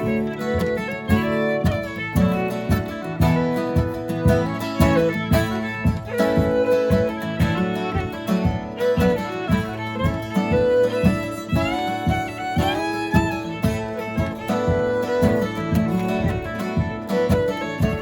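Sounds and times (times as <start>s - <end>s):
fiddle playing folk dance tune: 0.0s - 18.0s
strummed acoustic guitar: 0.0s - 18.0s.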